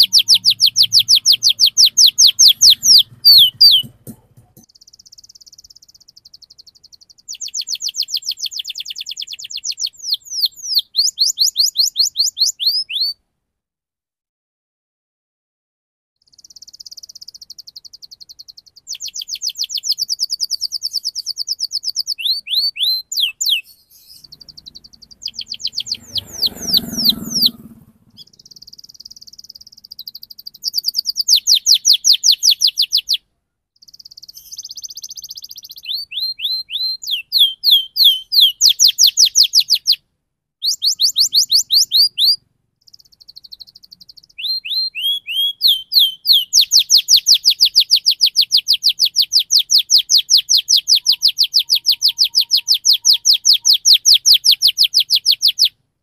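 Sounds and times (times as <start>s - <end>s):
canary singing trills: 0.0s - 13.2s, 16.2s - 40.0s, 40.6s - 55.8s.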